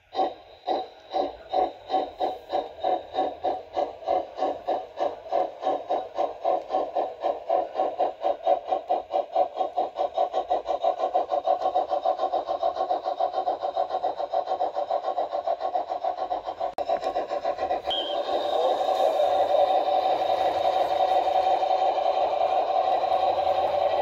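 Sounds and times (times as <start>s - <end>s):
model steam locomotive chuffing: 0.0s - 24.0s.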